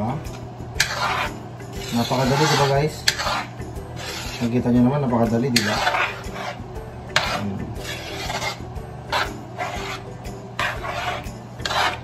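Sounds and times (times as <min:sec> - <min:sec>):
spoon scraping metal wok: 0:00.3 - 0:12.0.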